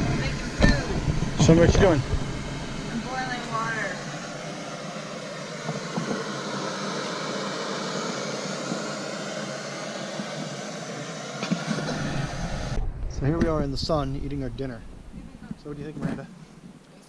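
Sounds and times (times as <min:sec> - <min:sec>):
camping stove burner hissing: 0:00.0 - 0:12.8, 0:13.5 - 0:17.0.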